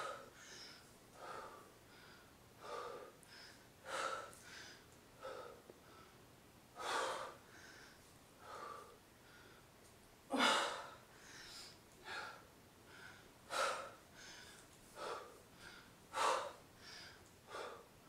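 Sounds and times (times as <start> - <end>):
woman breathing hard: 0.0 - 18.0.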